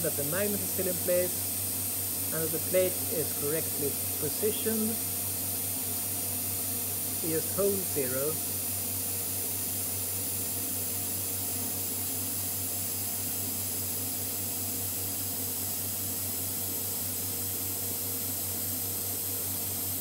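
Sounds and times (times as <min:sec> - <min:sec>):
vacuum pump drone and hiss: 0:00.0 - 0:20.0.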